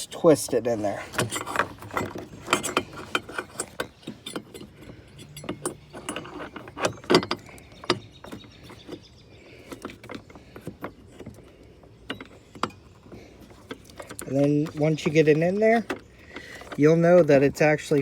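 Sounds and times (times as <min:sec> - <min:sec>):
hard plastic clicking: 0:01.0 - 0:18.0.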